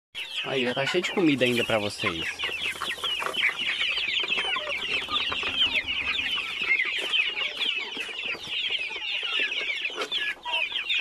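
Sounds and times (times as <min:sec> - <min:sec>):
young chickens cheeping: 0:00.2 - 0:11.0.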